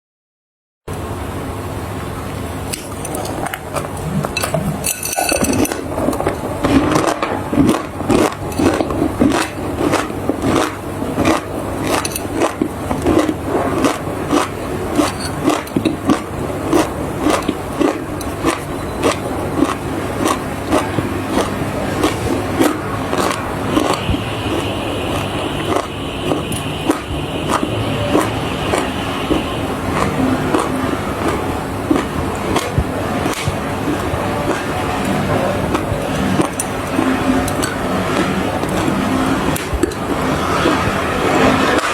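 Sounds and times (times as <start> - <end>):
steady low hum: 0.9 - 41.9.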